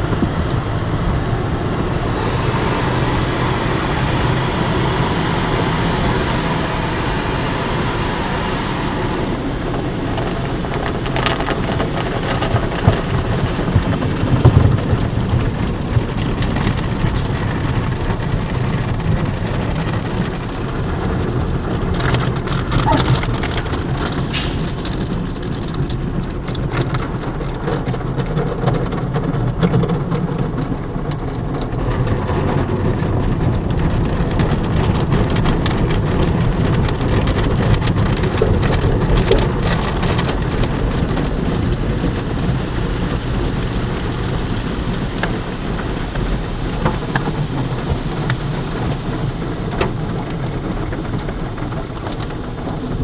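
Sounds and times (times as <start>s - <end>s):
water spray drumming on car roof: 0.0s - 53.0s.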